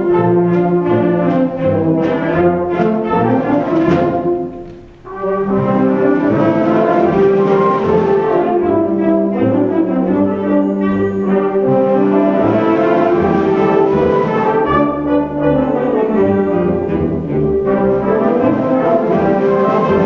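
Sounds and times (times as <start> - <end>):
live band with brass: 0.0 - 20.0.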